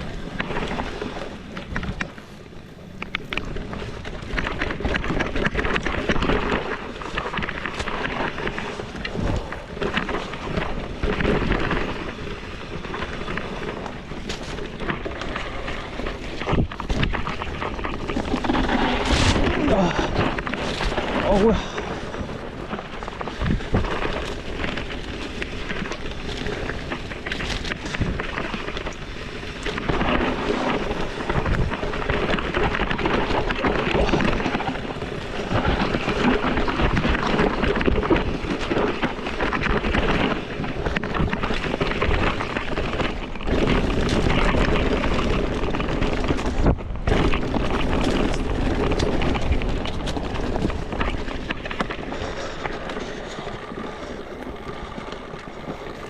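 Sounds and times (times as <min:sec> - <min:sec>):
tyres rumbling on rough trail: 0:00.0 - 0:56.0
wind buffeting microphone: 0:00.0 - 0:56.0.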